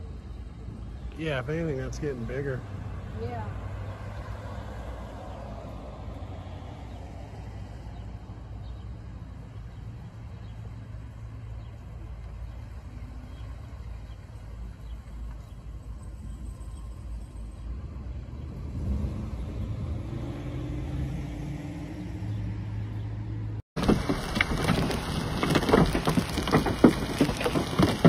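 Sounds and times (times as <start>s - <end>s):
pickup trucks driving past: 0.0s - 28.0s.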